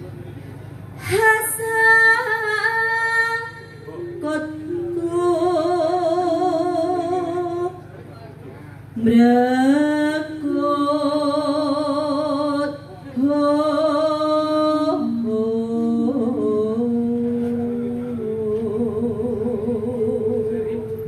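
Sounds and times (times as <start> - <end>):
woman singing with vibrato: 1.0 - 7.8, 9.0 - 21.0.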